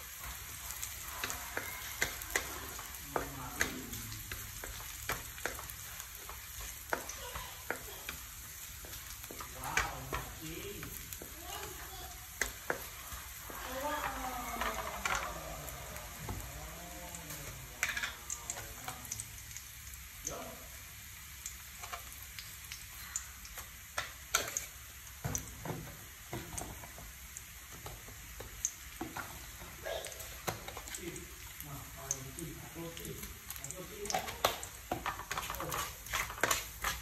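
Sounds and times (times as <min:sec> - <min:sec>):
garlic sizzling in oil: 0:00.0 - 0:37.0
spatula scraping and tapping pan: 0:00.2 - 0:16.5, 0:17.3 - 0:19.1, 0:21.7 - 0:22.2, 0:23.5 - 0:31.6, 0:33.0 - 0:37.0.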